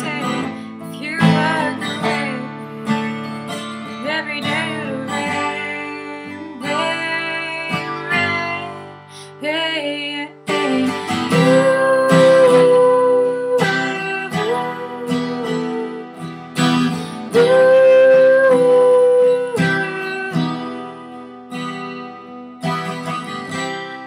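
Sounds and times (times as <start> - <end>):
woman singing wordless notes: 0.0 - 2.7, 4.0 - 16.2, 16.8 - 21.3
acoustic guitar strumming: 0.0 - 24.0.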